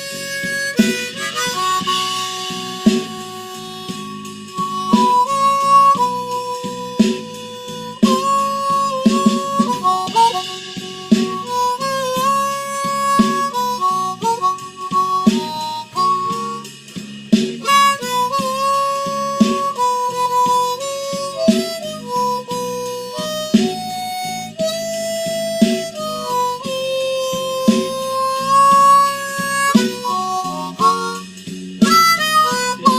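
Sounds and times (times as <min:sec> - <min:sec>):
blues harmonica solo: 0:00.0 - 0:32.9
drums and bass backing track: 0:00.0 - 0:32.9.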